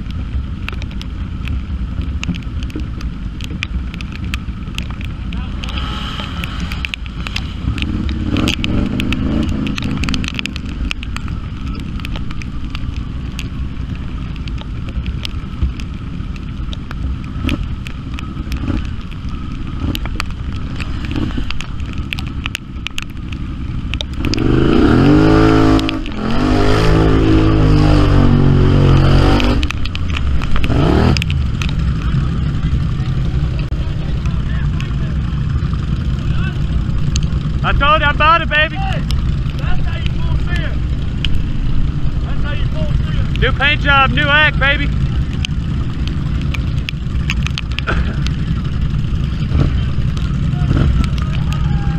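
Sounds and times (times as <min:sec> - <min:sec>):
off-road vehicle engine revving: 0:00.6 - 0:51.9.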